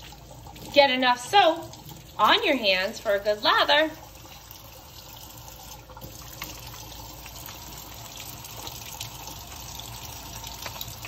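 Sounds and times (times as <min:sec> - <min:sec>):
faucet running into metal sink: 0:00.0 - 0:11.0.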